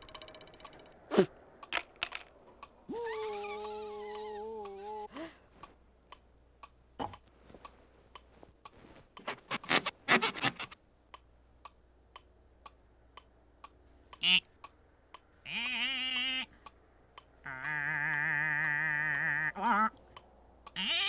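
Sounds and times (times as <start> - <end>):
steady ticking: 0.0 - 10.0, 10.6 - 21.0.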